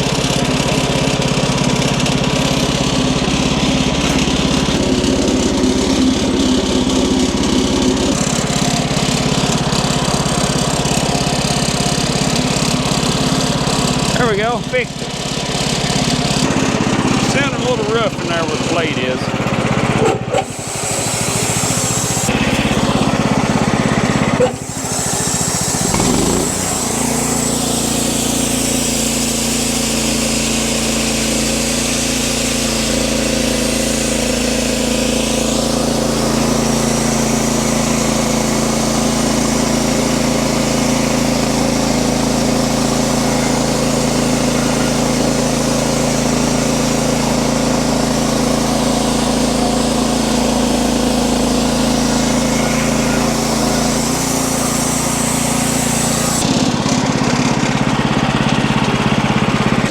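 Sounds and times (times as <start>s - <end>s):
band sawmill drone: 0.0s - 59.9s.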